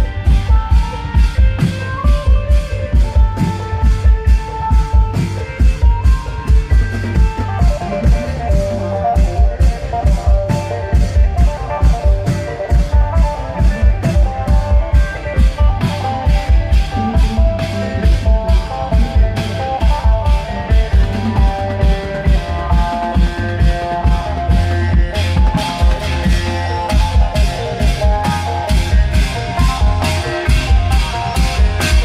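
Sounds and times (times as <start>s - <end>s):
amplified plucked-string melody: 0.0s - 32.0s
drums beating fast: 0.0s - 32.0s
procession band over loudspeakers: 1.8s - 32.0s.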